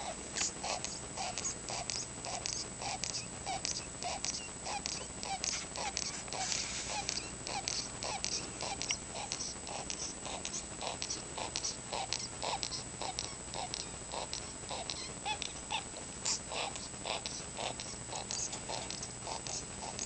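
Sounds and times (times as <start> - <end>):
bird wheezing breaths: 0.4 - 20.0.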